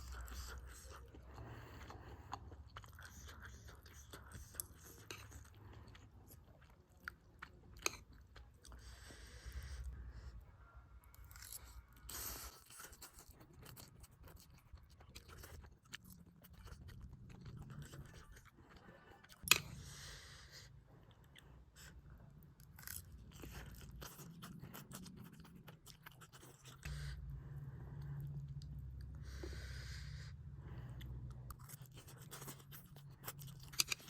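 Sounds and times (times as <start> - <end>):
chewing noodles: 0.0 - 10.3, 11.0 - 34.0.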